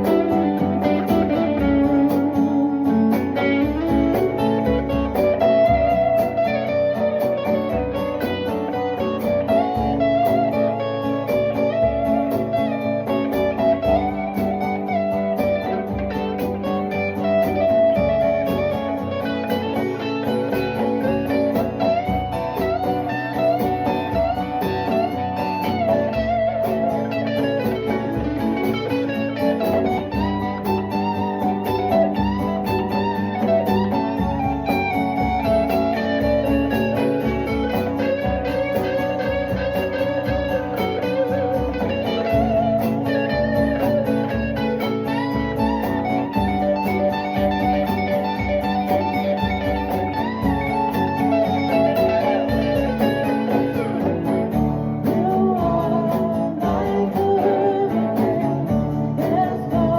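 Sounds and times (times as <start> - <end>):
instrumental guitar music: 0.0 - 59.9.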